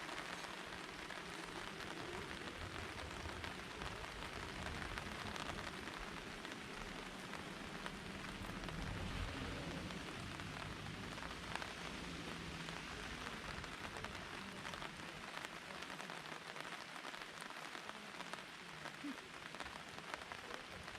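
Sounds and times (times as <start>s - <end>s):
rain pattering: 0.0s - 20.9s.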